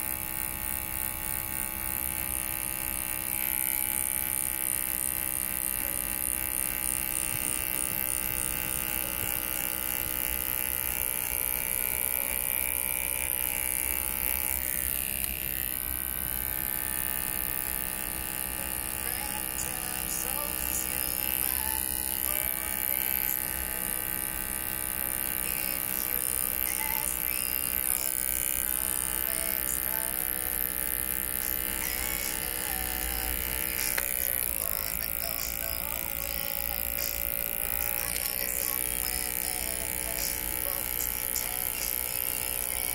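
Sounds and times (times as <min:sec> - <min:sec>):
electric hair trimmer buzzing: 0:00.0 - 0:42.9.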